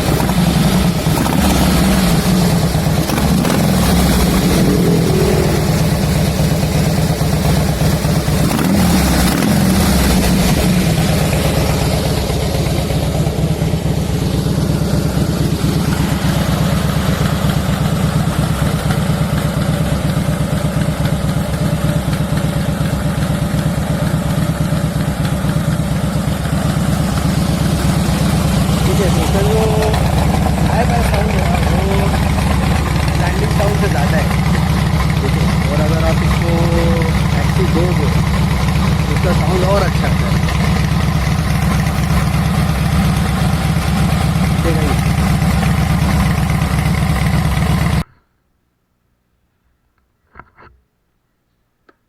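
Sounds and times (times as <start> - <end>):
motorcycle engine revving and idling: 0.0 - 48.1.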